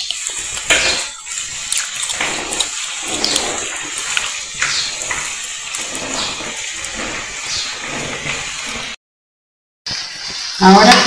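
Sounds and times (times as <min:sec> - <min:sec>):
vegetables sizzling in hot oil: 0:00.0 - 0:09.0, 0:09.9 - 0:11.0.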